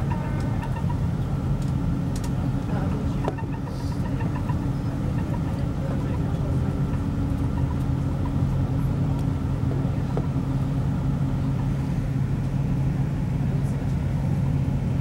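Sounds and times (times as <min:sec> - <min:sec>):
diesel engine drone: 0:00.0 - 0:15.0
train wheels rumbling on track: 0:00.0 - 0:15.0.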